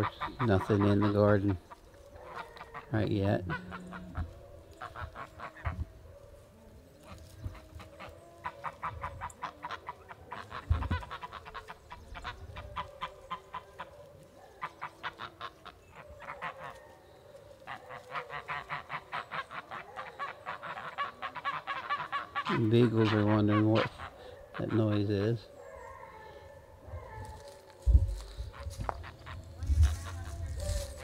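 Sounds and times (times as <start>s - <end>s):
geese honking: 0.0s - 5.8s, 6.9s - 26.2s, 27.3s - 31.0s.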